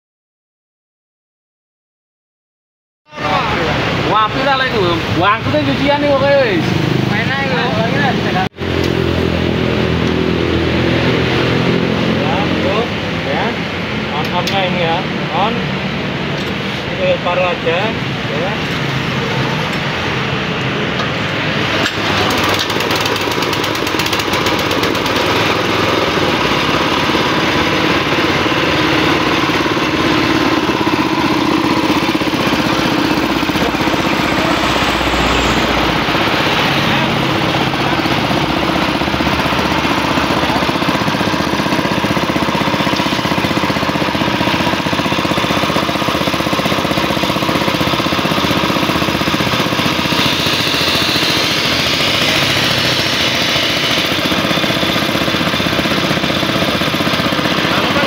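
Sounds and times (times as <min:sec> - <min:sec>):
small engine running steadily: 0:03.2 - 0:58.0.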